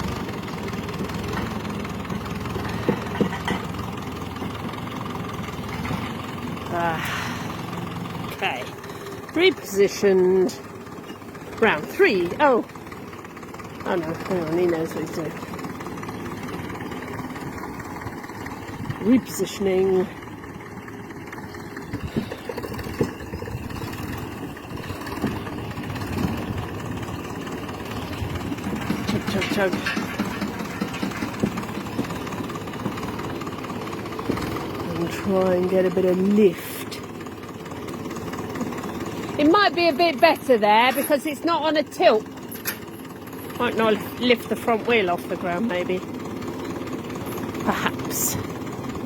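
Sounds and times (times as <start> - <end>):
tractor engine idling: 0.0 - 49.0.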